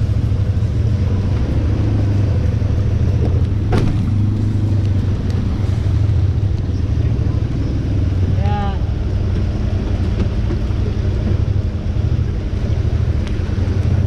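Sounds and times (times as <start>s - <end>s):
utility vehicle engine running: 0.0s - 14.0s.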